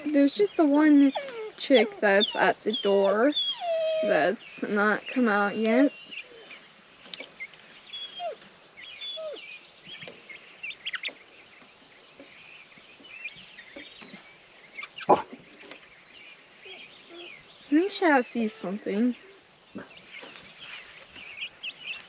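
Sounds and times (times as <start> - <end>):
chicks peeping and chirping: 0.0 - 22.0.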